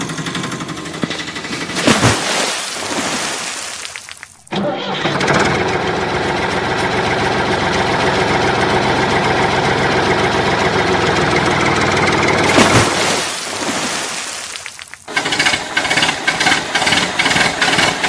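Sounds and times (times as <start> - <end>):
tractor engine running: 0.0 - 1.9, 3.9 - 12.8, 13.5 - 18.0.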